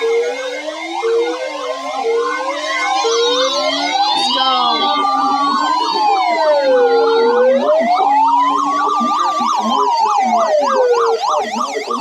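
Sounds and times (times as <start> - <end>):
siren fast yelp: 0.0 - 12.0
siren wailing: 0.0 - 12.0.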